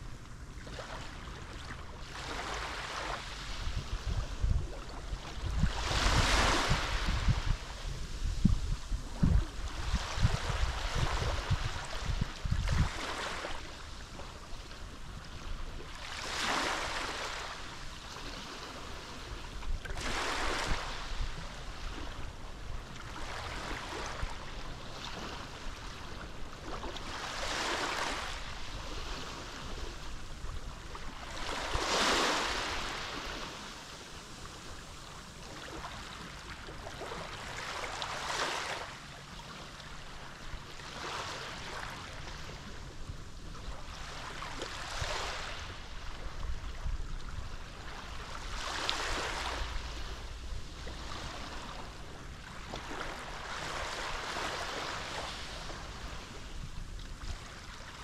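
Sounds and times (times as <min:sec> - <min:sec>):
small waves washing onto shore: 0:00.0 - 0:58.0.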